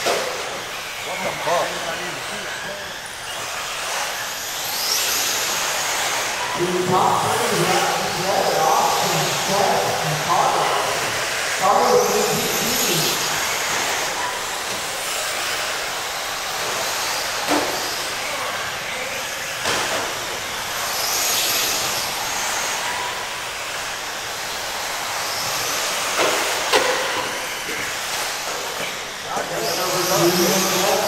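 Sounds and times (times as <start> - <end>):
rc race cars passing: 0.0 - 31.0.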